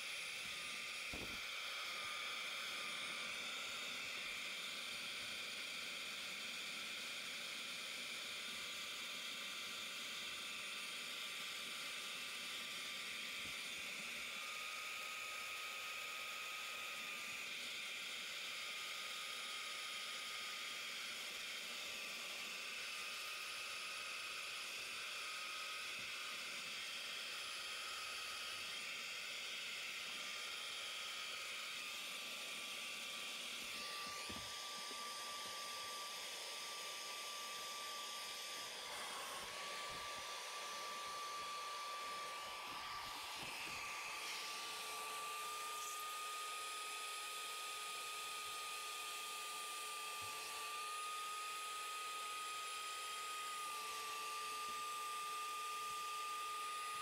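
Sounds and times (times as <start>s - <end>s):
vacuum motor whining: 0.0s - 57.0s.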